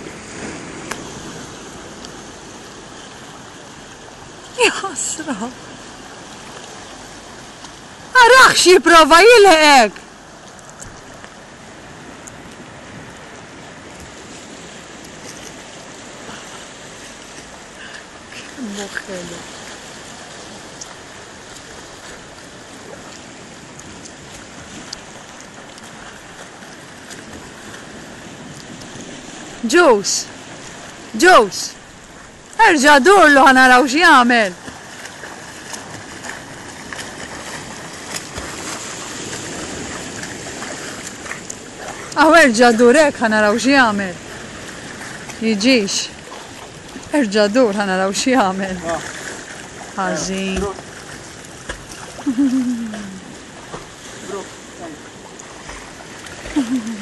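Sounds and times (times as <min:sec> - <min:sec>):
small waves splashing on rocks: 0:00.0 - 0:57.0.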